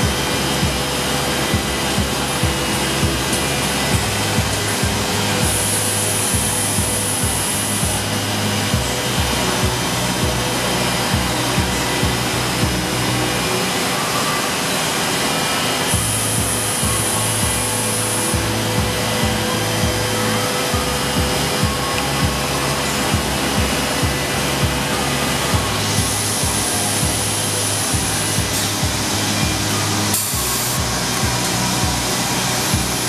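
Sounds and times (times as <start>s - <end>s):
background music with steady beat: 0.0s - 33.0s
high hiss: 0.0s - 33.0s.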